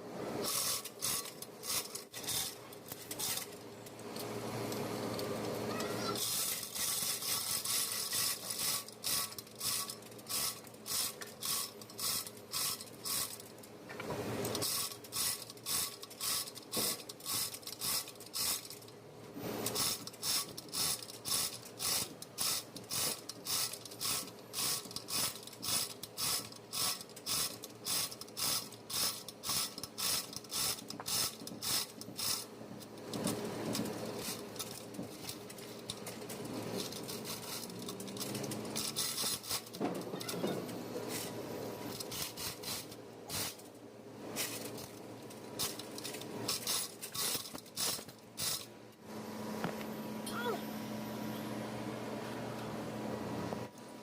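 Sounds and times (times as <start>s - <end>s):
regular hand tool strokes: 0.4s - 13.8s, 14.4s - 19.0s, 19.6s - 48.8s.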